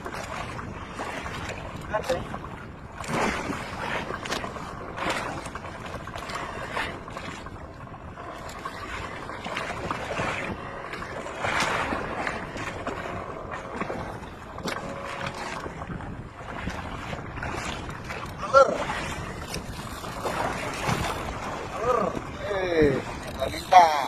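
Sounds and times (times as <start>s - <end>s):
rush of water: 0.0s - 24.0s
water slapping against hull: 0.0s - 24.0s.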